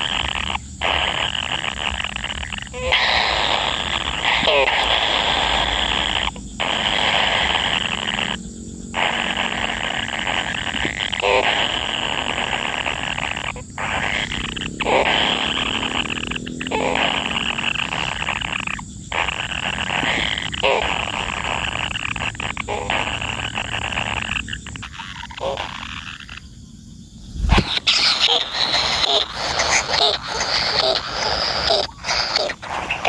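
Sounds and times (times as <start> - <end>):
nestlings buzzing begging churr: 0.0 - 33.0.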